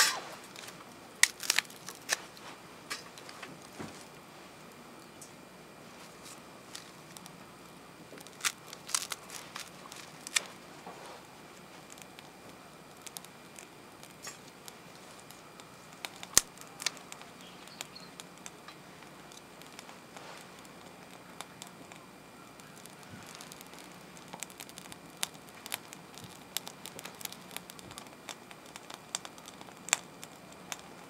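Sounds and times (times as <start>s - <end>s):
kindling crackling and popping: 0.0s - 31.0s.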